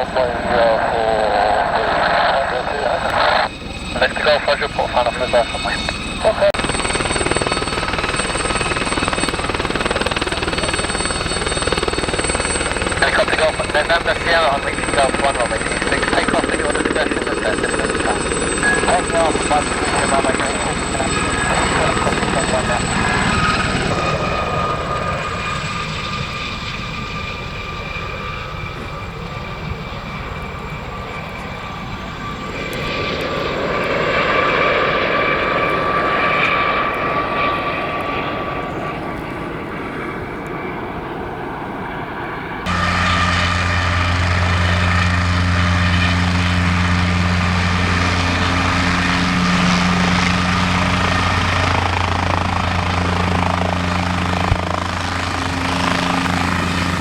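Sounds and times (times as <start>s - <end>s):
aircraft engine drone: 0.0s - 57.0s
helicopter turbine whine: 0.0s - 57.0s.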